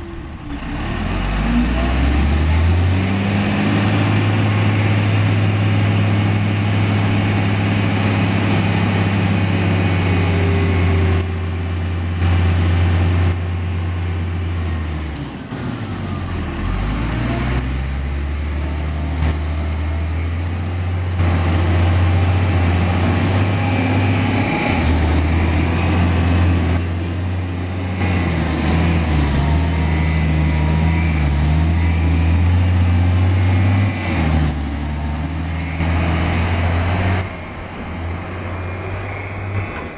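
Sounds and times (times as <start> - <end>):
diesel engine running hard: 0.0 - 39.9.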